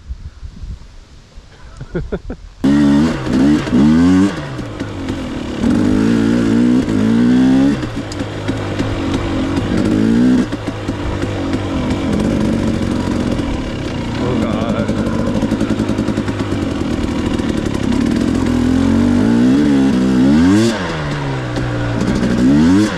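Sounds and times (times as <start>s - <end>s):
dirt bike revving: 2.6s - 22.9s.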